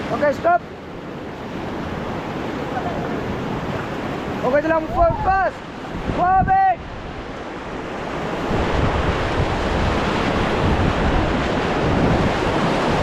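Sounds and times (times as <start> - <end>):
whitewater rushing: 0.0 - 13.0
wind buffeting microphone: 1.5 - 13.0.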